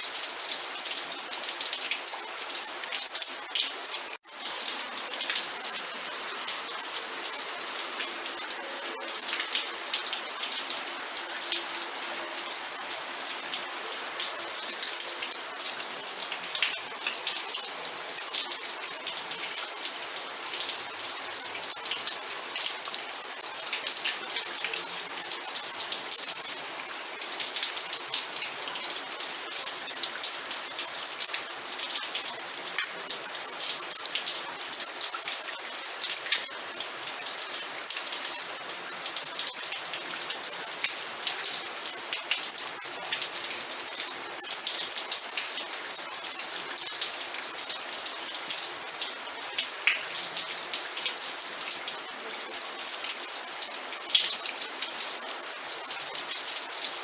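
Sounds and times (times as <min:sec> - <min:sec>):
raindrops ticking on a surface: 0:00.2 - 0:57.0.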